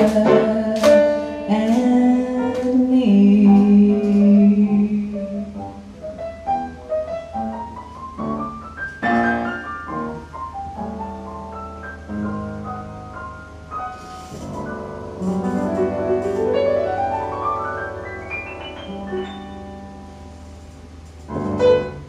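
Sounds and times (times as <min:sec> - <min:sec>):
upright piano playing: 0:00.0 - 0:22.0.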